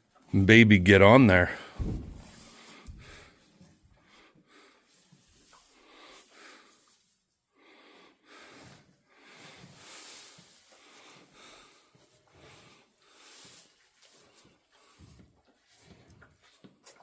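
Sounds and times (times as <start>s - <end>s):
cow breathing: 1.7s - 17.0s.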